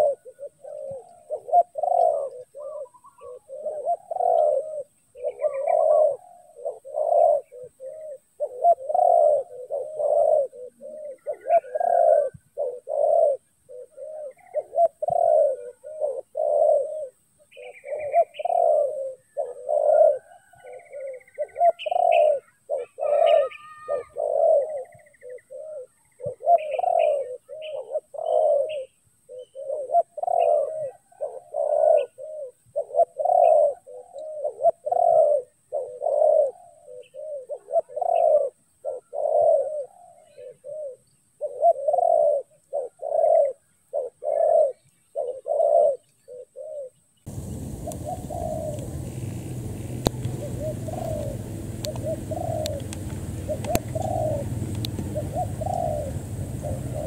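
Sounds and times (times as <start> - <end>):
doves cooing: 0.0 - 57.0
small birds chirping: 0.0 - 57.0.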